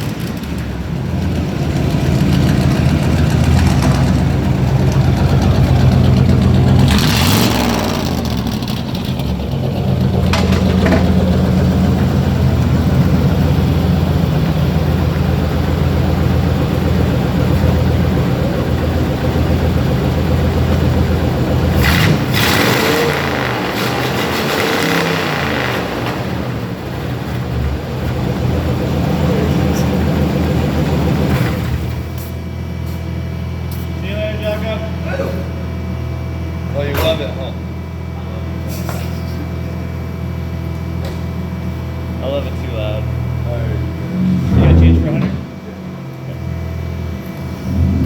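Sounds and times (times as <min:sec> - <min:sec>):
vvee eight engine idling and revving: 0:00.0 - 0:48.0.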